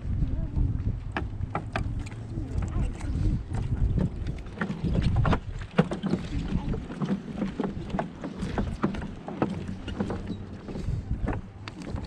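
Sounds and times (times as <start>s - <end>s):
footsteps on wooden boardwalk: 0.0s - 12.0s
wind buffeting microphone: 0.0s - 12.0s.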